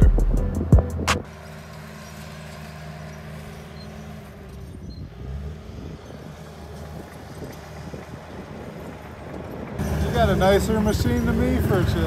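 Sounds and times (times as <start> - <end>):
motor vehicle engine running: 0.0 - 12.0.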